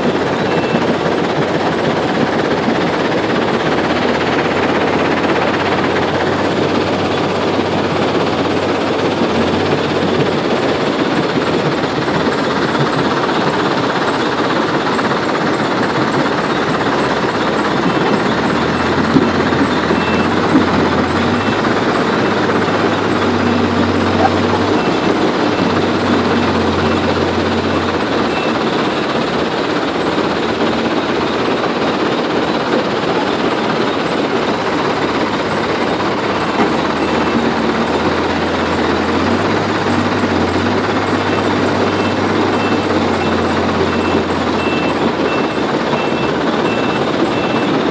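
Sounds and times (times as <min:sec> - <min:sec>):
diesel excavator running: 0:00.0 - 0:47.9.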